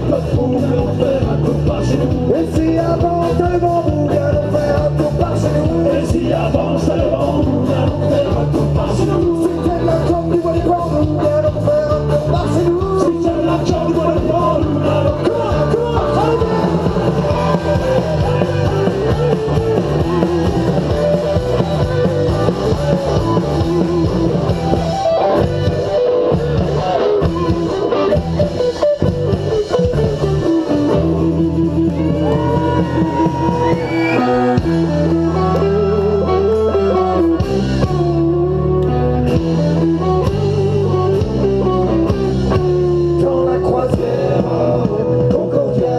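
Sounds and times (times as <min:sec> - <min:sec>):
person singing: 0:00.0 - 0:25.5, 0:30.7 - 0:39.1, 0:40.1 - 0:45.9
bass guitar: 0:00.0 - 0:45.9
electric guitar: 0:00.0 - 0:45.9
live folk-rock band: 0:00.0 - 0:45.9.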